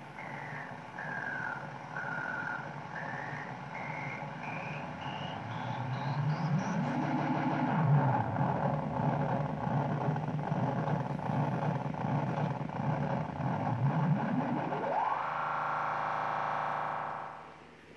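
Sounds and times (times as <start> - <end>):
synth tone sweeping up: 0.0 - 17.5
synthesizer drone wobbling: 0.0 - 17.5.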